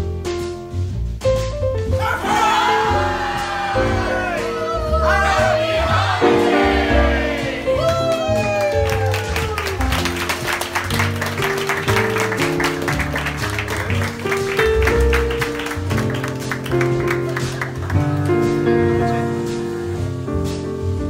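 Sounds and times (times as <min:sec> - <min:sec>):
instrumental background music: 0:00.0 - 0:21.0.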